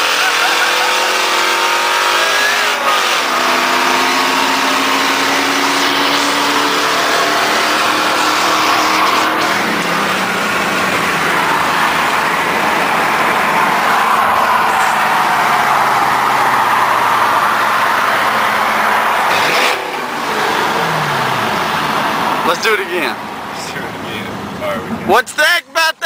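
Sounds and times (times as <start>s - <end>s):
truck engine at full throttle: 0.0s - 25.2s.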